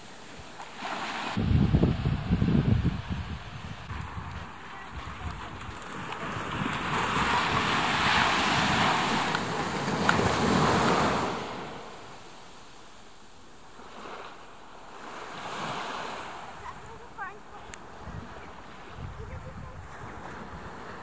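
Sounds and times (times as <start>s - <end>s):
surf hissing on beach: 0.0s - 21.0s
water lapping: 3.8s - 21.0s.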